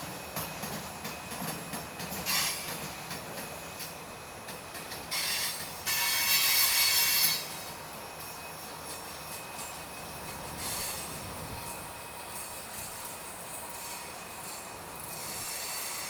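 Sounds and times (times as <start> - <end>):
freight train cars rolling: 0.0 - 16.0.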